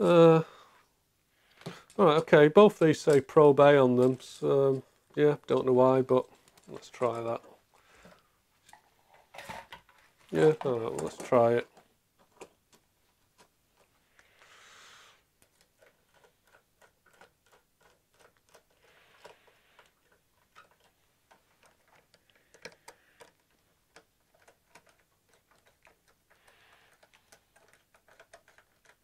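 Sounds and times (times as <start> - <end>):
soft cable rustles: 1.4 - 29.0.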